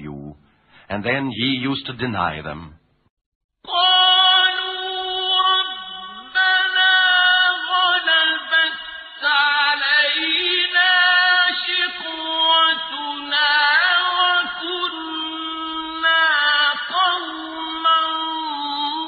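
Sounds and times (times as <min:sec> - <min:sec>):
person chanting melodic recitation: 0:03.7 - 0:19.0.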